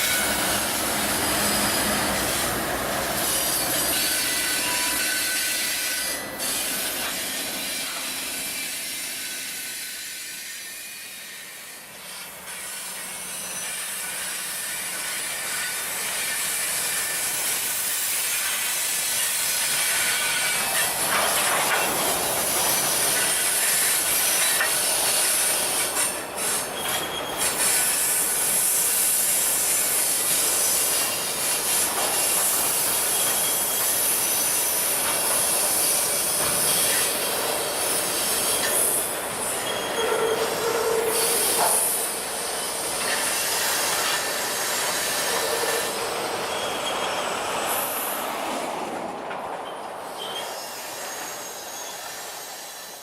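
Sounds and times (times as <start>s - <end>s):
freight train cars rolling: 0.0s - 53.0s
wheels squealing against rails: 0.0s - 53.0s.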